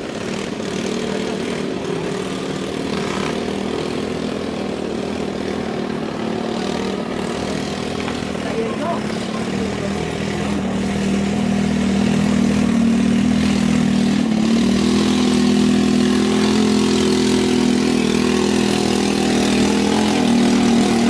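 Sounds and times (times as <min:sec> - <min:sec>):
quad engine running: 0:00.0 - 0:21.0.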